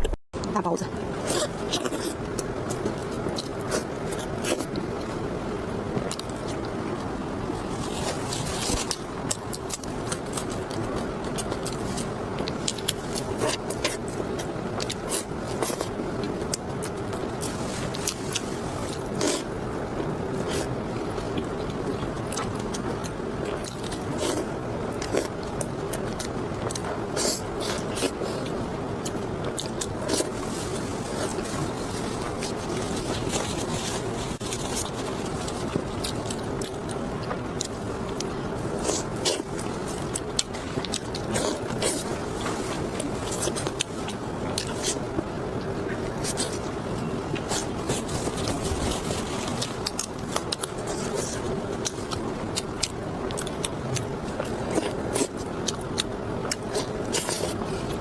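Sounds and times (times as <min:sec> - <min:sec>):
chewing and mouth noises: 0:05.9 - 0:58.0.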